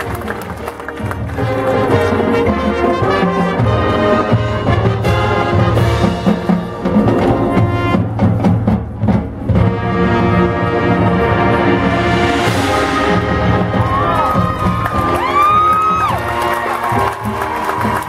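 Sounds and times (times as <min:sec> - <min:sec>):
brass chords: 0:00.0 - 0:18.0
drums and timpani: 0:00.0 - 0:18.0.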